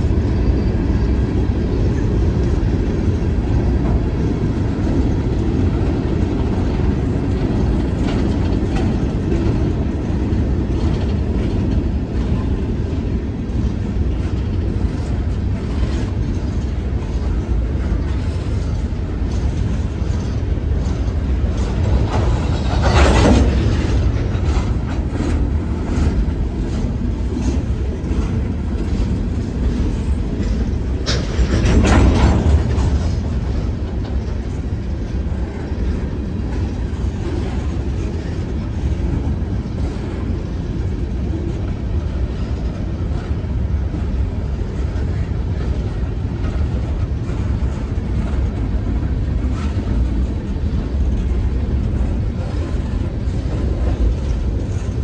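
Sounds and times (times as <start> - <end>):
freight train rumbling past: 0.0 - 55.0
train cars clickety-clack: 0.0 - 55.0.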